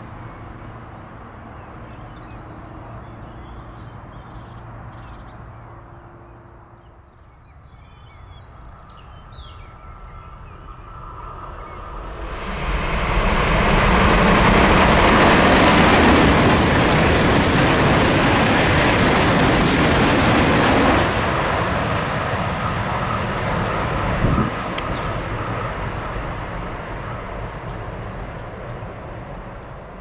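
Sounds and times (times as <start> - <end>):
high-speed train passing: 0.0 - 30.0.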